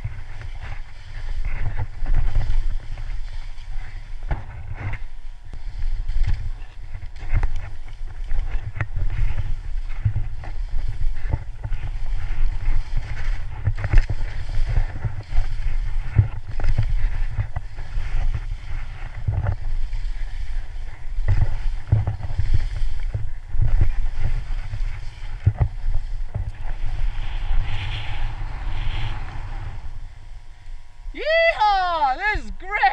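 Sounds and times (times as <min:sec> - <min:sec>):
wind rumble on microphone: 0:00.0 - 0:31.6
skis scraping through snow: 0:00.0 - 0:32.1.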